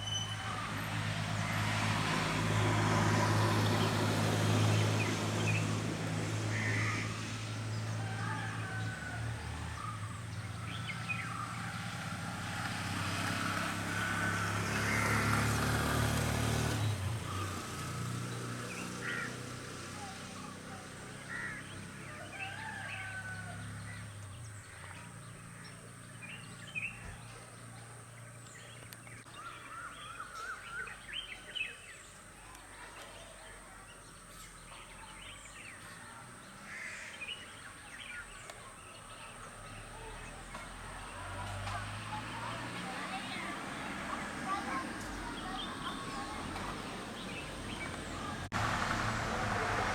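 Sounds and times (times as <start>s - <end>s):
vehicle engine hum: 0.0s - 29.8s, 37.5s - 49.9s
birds calling: 0.0s - 48.5s.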